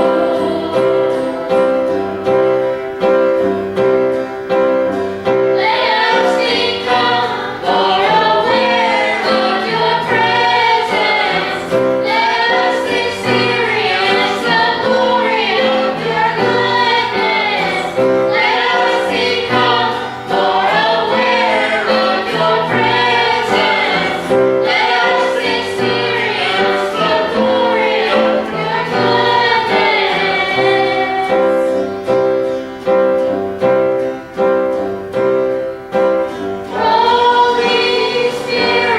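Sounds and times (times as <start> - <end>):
group singing gospel song: 0.0 - 2.8, 5.4 - 32.5, 36.7 - 38.9
held accompanying chords: 0.0 - 38.9.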